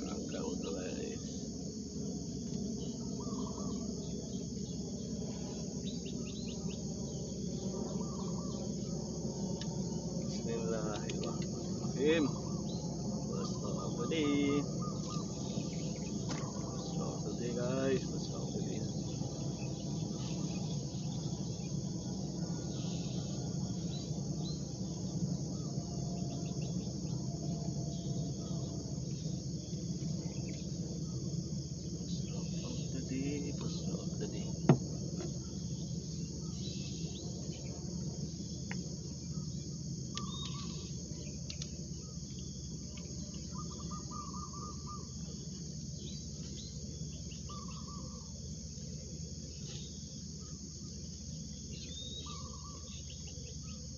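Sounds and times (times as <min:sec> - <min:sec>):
insects chorus: 0:00.0 - 0:53.9
low background rumble: 0:00.0 - 0:53.9.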